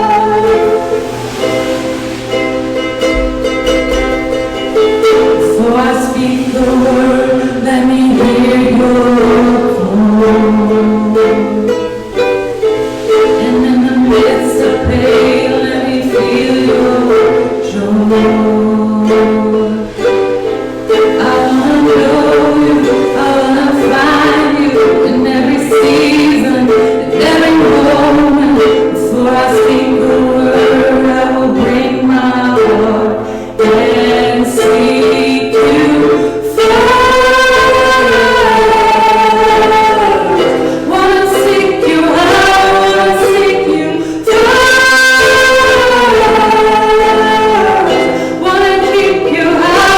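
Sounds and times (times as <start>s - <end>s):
voices singing: 0.0s - 49.9s.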